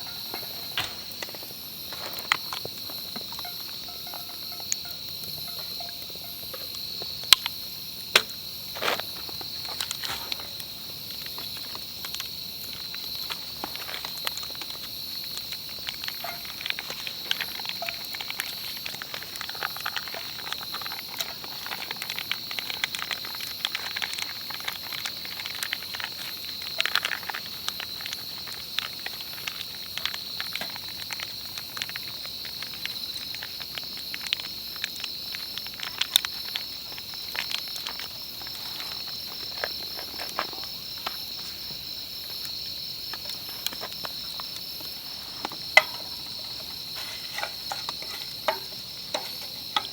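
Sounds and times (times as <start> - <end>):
insects trilling: 0.0 - 49.9
sharp clicks and crackles: 0.0 - 49.9.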